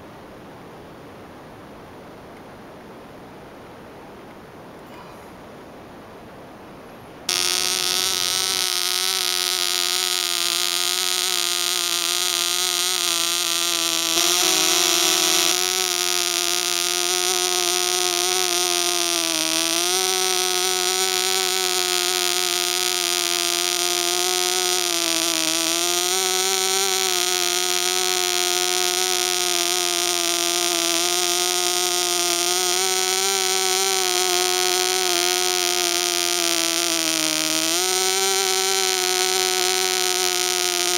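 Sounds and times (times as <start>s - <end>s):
model engine high-pitched buzz: 7.3s - 40.9s.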